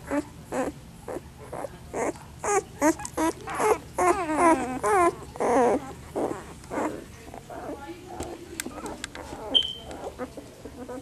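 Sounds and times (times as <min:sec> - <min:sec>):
puppies whining and squealing: 0:00.0 - 0:11.0.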